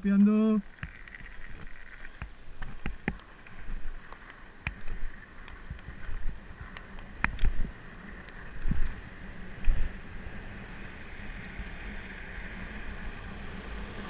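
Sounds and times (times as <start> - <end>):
wind rumbling on microphone: 0.0 - 14.0
longboard wheels hissing on asphalt: 0.6 - 14.0.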